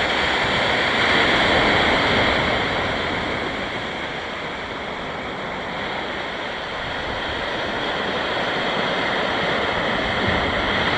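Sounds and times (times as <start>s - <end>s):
ocean surf breaking: 0.0s - 10.9s.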